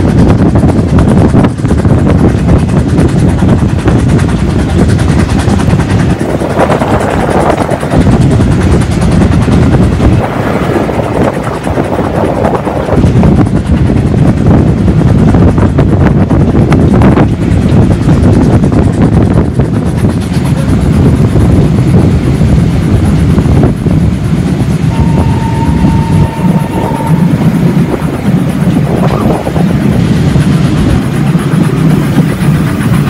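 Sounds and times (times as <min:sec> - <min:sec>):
train coaches rumbling on track: 0:00.0 - 0:33.0
wind buffeting microphone: 0:00.0 - 0:33.0.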